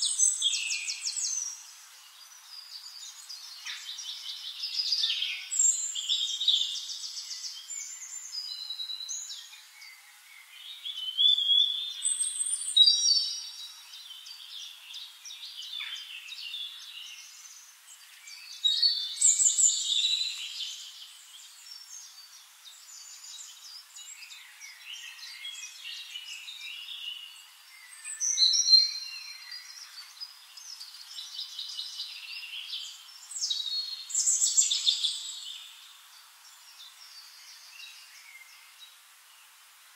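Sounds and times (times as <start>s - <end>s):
birds chirping and trilling: 0.0s - 39.6s.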